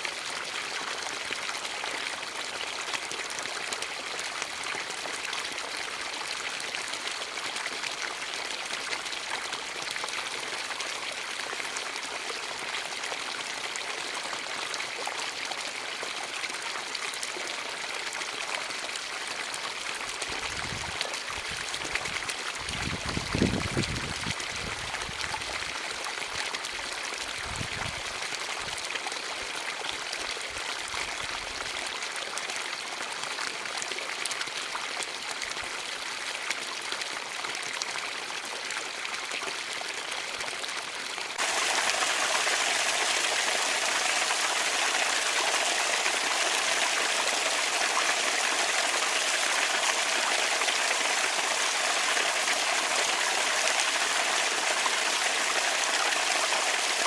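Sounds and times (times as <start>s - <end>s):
fountain water trickling and splashing: 0.0s - 57.0s.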